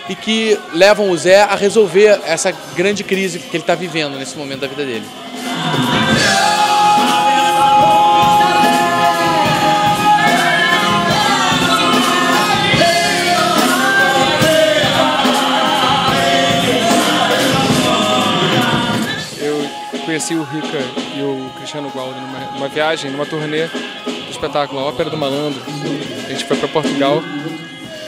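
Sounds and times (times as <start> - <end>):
men singing in harmony: 0.0 - 28.0.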